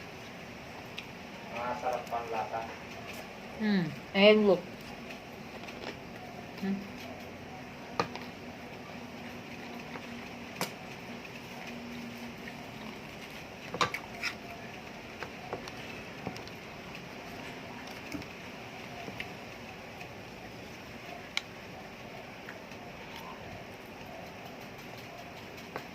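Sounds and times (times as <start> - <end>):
eating fried chicken: 0.0 - 25.9
steady background hiss: 0.0 - 25.9.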